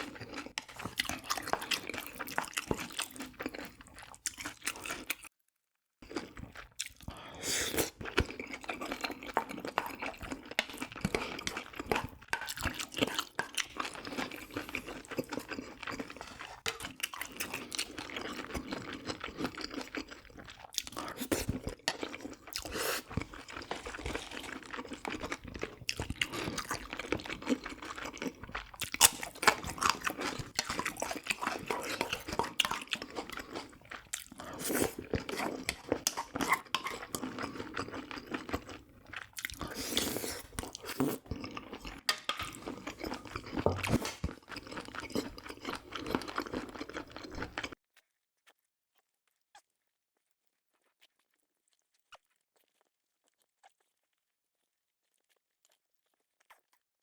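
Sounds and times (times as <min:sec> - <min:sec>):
wet chewing and mouth sounds: 0:00.0 - 0:05.3, 0:06.0 - 0:47.8, 0:50.7 - 0:56.8.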